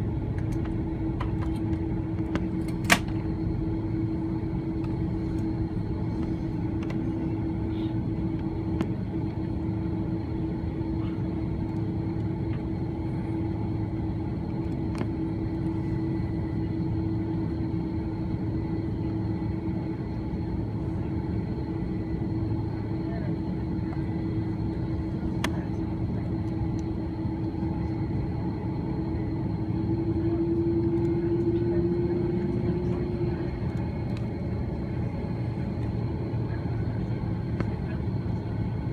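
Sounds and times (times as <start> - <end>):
aircraft cabin hum: 0.0 - 38.9.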